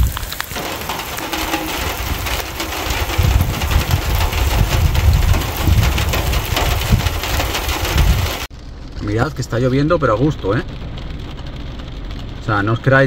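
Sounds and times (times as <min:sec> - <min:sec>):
heavy rain on car bonnet: 0:00.0 - 0:08.5, 0:10.0 - 0:12.8
low rumble: 0:00.0 - 0:13.0.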